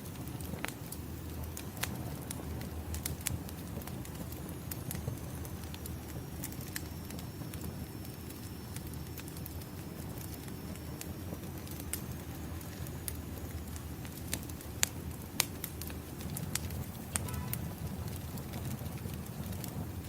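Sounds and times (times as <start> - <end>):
firewood crackling: 0.0 - 20.0
low rumble of flames: 0.0 - 20.0.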